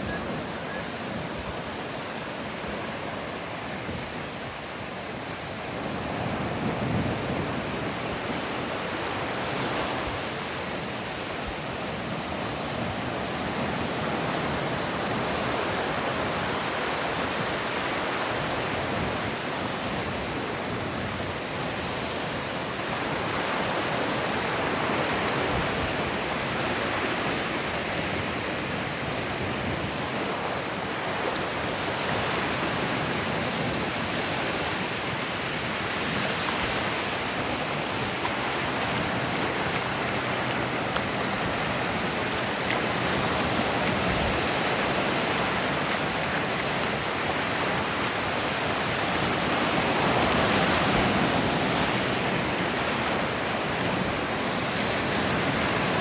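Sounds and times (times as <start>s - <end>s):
ocean surf on sand: 0.0s - 56.0s.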